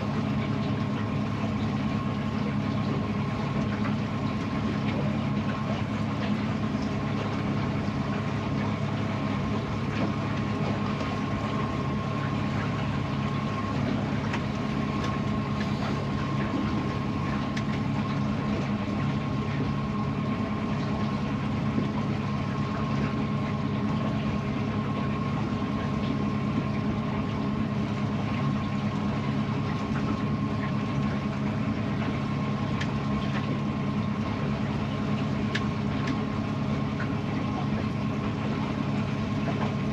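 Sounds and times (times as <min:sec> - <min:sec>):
boat motor running: 0:00.0 - 0:39.9
faint steady whine: 0:00.0 - 0:39.9.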